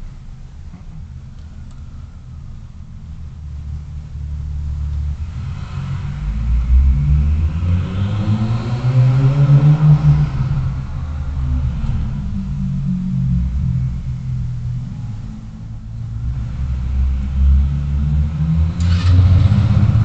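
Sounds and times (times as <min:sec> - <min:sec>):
low road rumble: 0:00.0 - 0:20.0
vehicle engine accelerating: 0:03.3 - 0:20.0.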